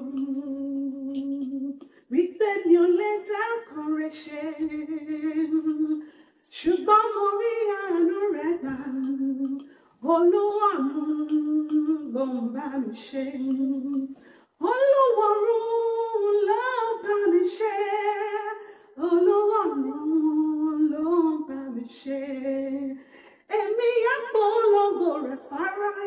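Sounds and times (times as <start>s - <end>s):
woman singing unaccompanied: 0.0s - 26.0s.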